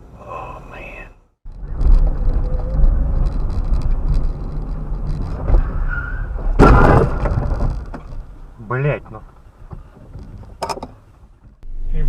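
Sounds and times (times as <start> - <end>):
heavy vehicle rumble: 0.0 - 12.0
road and wind noise: 0.0 - 12.0.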